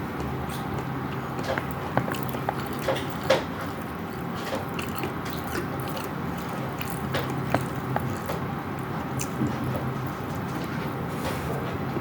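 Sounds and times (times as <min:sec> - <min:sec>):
wet chewing and smacking: 0:00.2 - 0:11.1.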